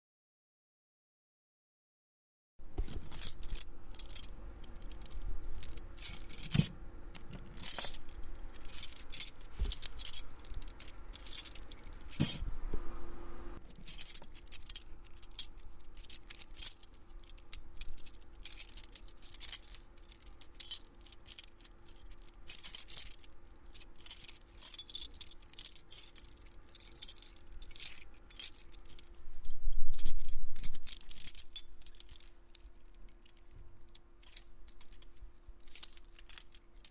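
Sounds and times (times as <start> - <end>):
metal keys jangling: 2.8 - 12.4, 13.6 - 36.9.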